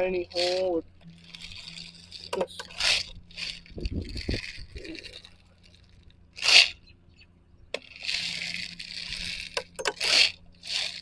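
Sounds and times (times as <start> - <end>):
rustling and scraping: 0.0 - 11.0.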